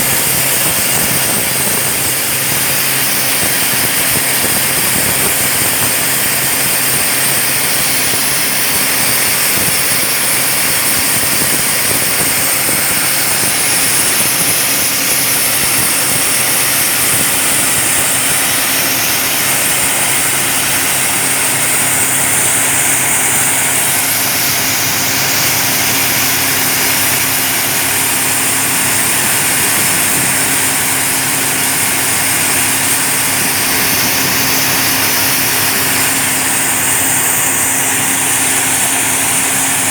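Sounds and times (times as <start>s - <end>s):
drill rig running: 0.0s - 39.9s.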